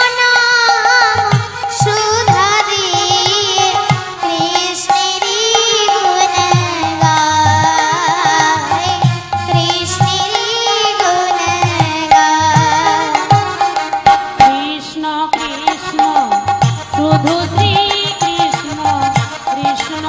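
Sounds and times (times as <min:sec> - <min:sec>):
devotional singing melody: 0:00.0 - 0:20.0.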